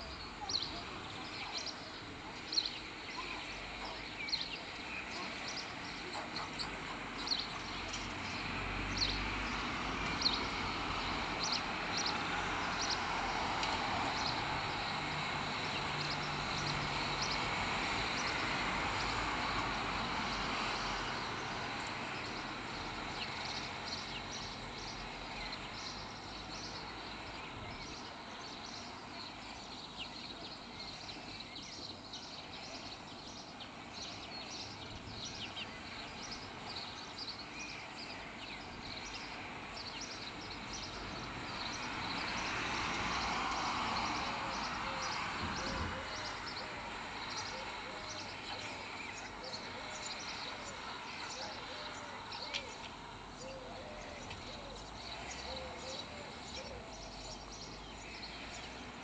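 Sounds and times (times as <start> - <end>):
outdoor background rumble: 0.0 - 59.0
small birds chirping: 0.0 - 59.0.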